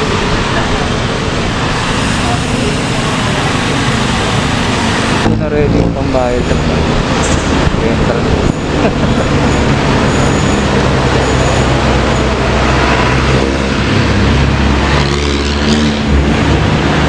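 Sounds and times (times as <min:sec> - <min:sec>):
dense road noise: 0:00.0 - 0:17.0
vehicle engine running: 0:00.0 - 0:17.0.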